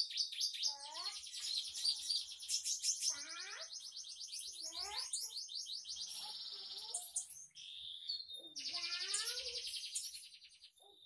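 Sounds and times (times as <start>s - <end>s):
bird singing varied song: 0.0s - 11.0s.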